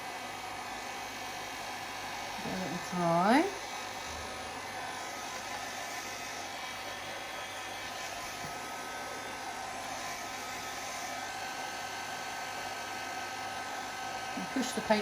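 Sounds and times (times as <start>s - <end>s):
hairdryer running with faint whine: 0.0s - 15.0s.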